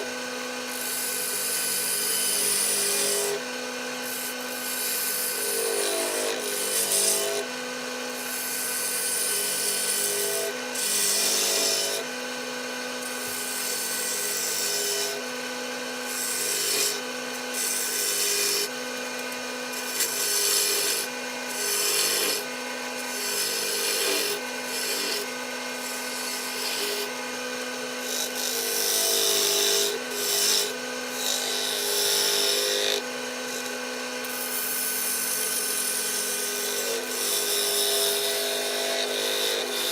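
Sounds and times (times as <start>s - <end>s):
lathe tool scraping wood: 0.0s - 39.9s
wood lathe motor hum: 0.0s - 39.9s.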